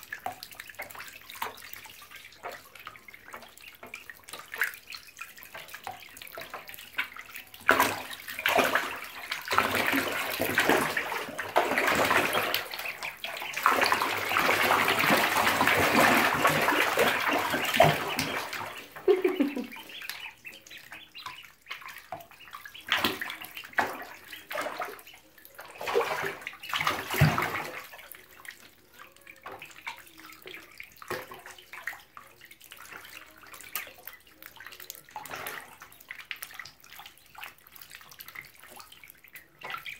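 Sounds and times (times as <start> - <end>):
water splashing in bathtub: 0.0 - 39.9.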